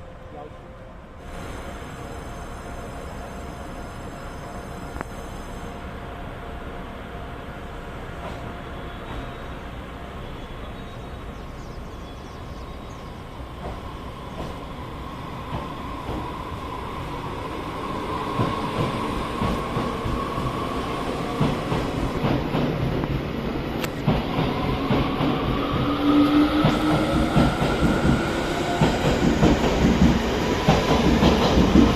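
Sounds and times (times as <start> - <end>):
train running on rails: 0.0 - 31.9.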